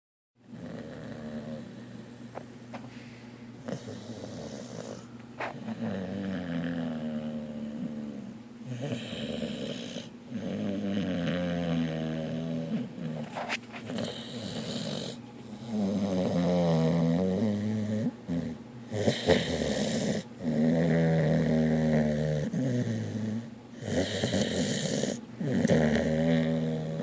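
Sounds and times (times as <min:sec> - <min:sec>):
dog snoring: 0:00.5 - 0:02.1, 0:03.6 - 0:27.0.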